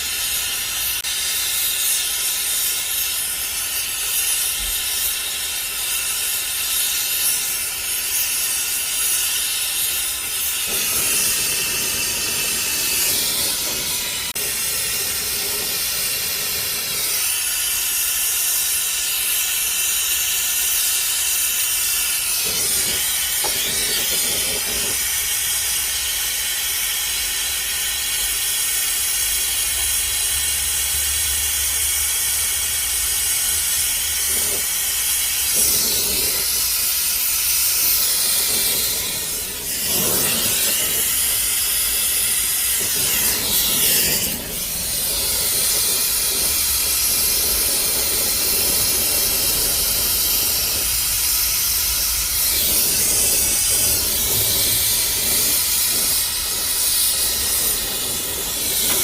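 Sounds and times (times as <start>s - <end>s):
steady hissing jet: 0.0s - 59.0s.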